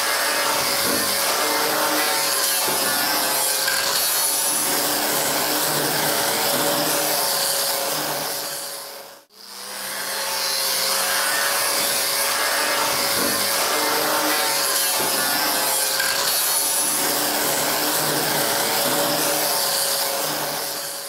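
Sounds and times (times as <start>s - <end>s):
grinder on metal: 0.0s - 21.0s.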